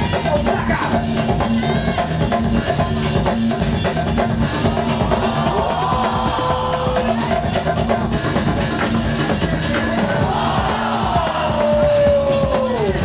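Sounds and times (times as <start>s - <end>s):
loud music with drum beat and bass: 0.0s - 13.0s.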